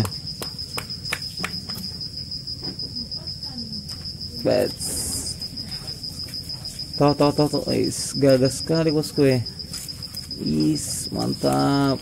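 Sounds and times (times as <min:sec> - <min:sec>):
insect trilling: 0:00.0 - 0:12.0.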